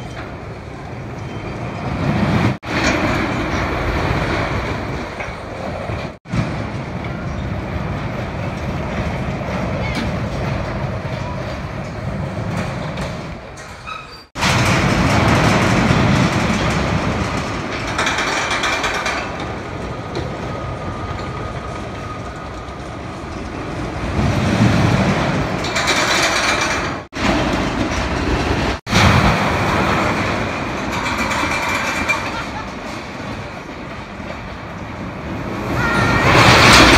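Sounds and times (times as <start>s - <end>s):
roller coaster rumbling on track: 0.0s - 36.9s.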